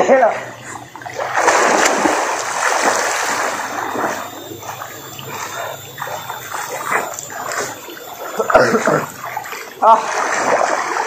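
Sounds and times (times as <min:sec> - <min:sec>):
swimmers splashing water: 0:00.0 - 0:11.0.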